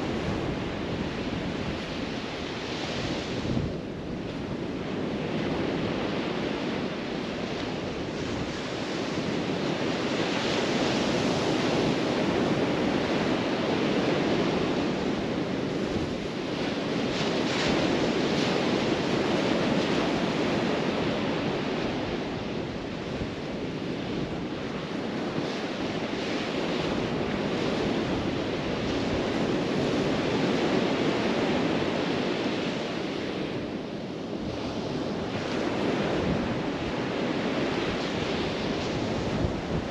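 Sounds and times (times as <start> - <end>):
surf washing onto beach: 0.0 - 39.9.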